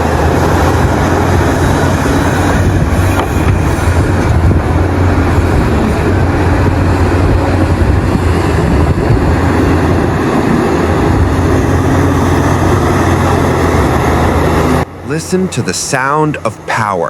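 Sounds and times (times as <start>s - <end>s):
heavy diesel engines humming: 0.0s - 17.0s.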